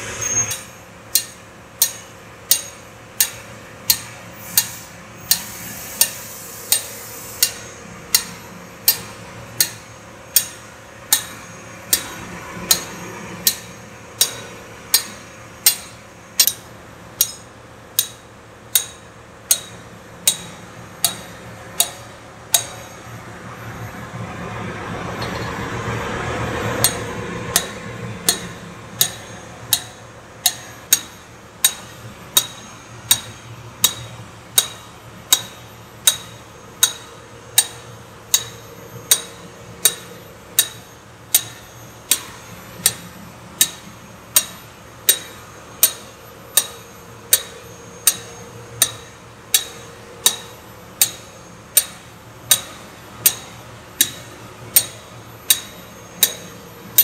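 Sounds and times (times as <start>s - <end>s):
hammer striking steel: 0.0s - 23.1s, 25.2s - 25.7s, 26.6s - 57.0s.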